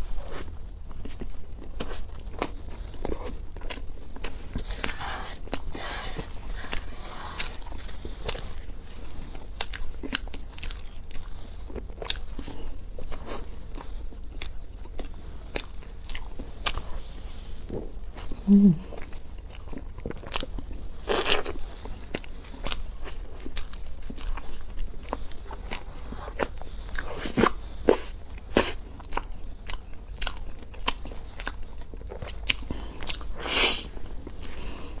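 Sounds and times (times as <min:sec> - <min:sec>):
crunchy chewing: 0:00.1 - 0:35.0.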